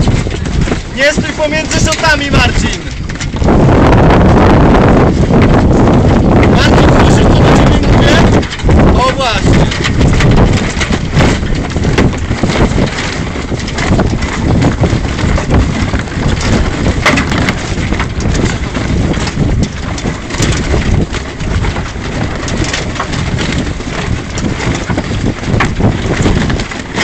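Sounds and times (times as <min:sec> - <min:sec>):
sail flapping: 0:00.0 - 0:27.0
wind buffeting microphone: 0:00.0 - 0:27.0.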